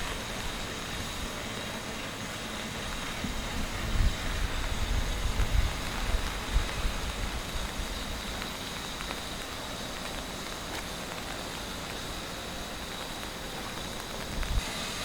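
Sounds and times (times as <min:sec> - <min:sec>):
raindrop ticks: 0:00.0 - 0:14.6
rain hiss: 0:00.0 - 0:15.0.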